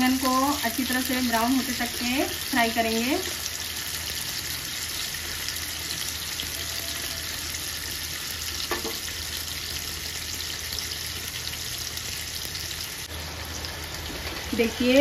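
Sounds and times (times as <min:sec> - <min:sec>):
eggplant sizzling in hot oil: 0:00.0 - 0:15.0.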